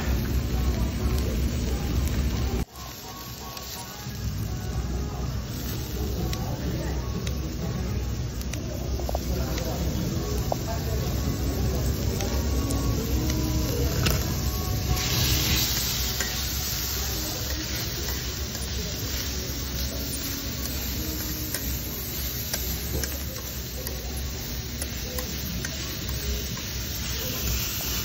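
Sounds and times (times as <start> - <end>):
meat sizzling on a griddle: 0.0 - 28.0.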